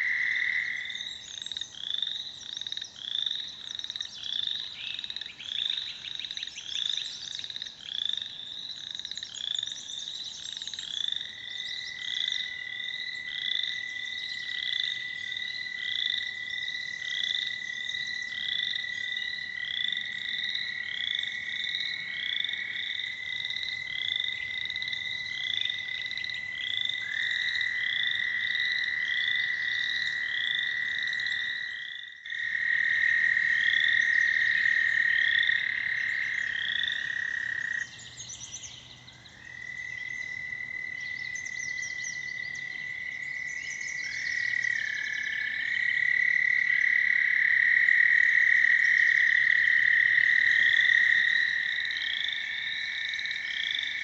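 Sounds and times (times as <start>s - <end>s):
frogs calling: 0.0s - 54.0s
toads trilling: 0.0s - 54.0s.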